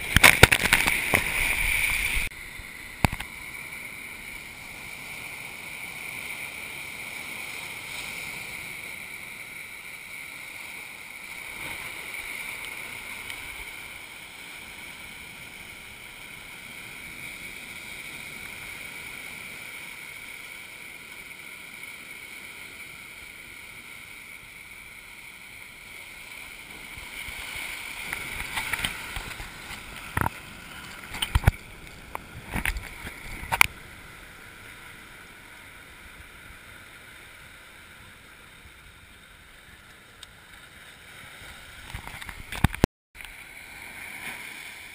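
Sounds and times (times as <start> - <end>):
surf breaking on beach: 0.0 - 21.2, 24.0 - 38.2, 40.8 - 44.9.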